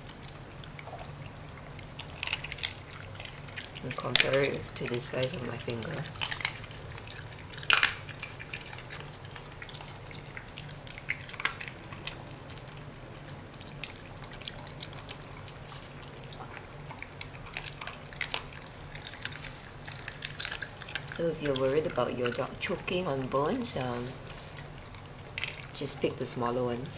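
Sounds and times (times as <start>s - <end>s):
dogs chewing and crunching: 0.0s - 26.9s.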